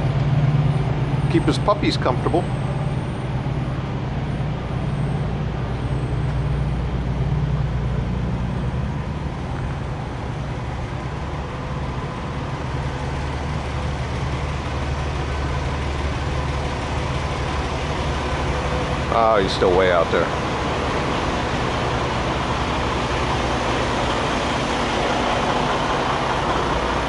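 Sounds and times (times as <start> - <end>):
deeper hum: 0.0 - 27.0
diesel engines humming: 0.0 - 27.0.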